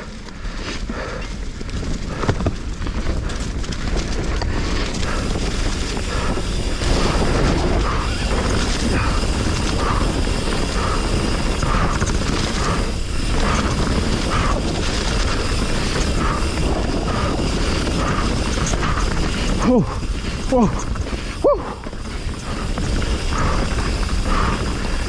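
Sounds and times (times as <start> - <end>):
bike chain and frame rattling: 0.0 - 25.0
wind rushing over microphone: 1.8 - 25.0.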